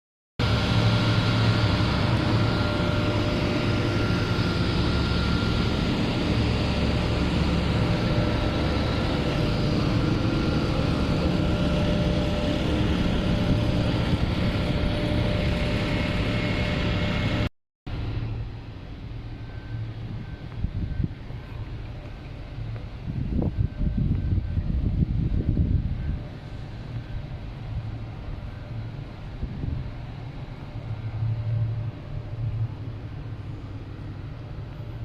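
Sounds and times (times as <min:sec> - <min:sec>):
heavy factory machinery drone: 0:00.4 - 0:35.0
thin steady machine whines: 0:00.4 - 0:35.0.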